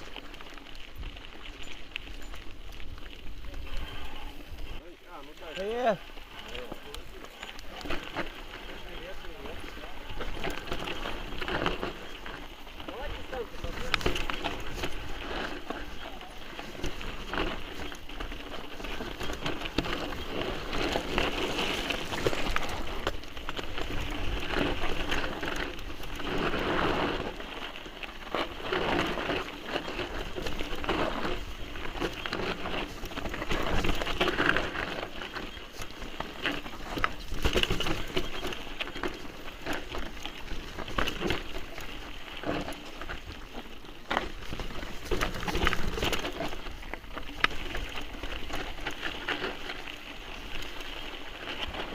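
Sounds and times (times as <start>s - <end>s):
bike rattling over bumps: 0.0s - 51.9s
bike tyres on loose stones: 0.0s - 51.9s.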